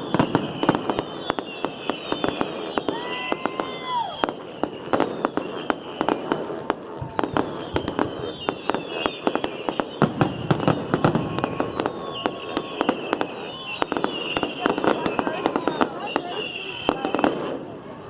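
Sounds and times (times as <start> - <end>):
firework whistles: 0.0 - 17.8
firework bangs and crackling: 0.0 - 18.0.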